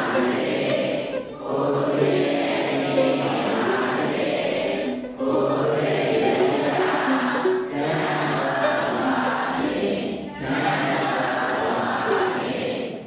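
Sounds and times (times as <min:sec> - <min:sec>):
choir singing long held notes: 0:00.0 - 0:13.0.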